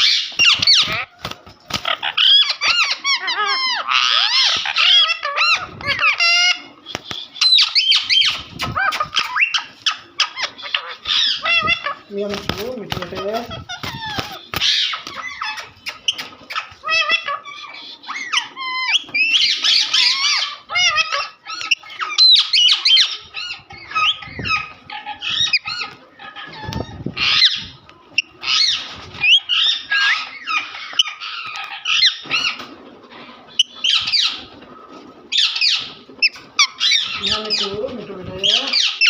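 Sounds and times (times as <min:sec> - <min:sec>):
parrot chattering and squawking: 0:00.0 - 0:01.2, 0:01.8 - 0:32.6.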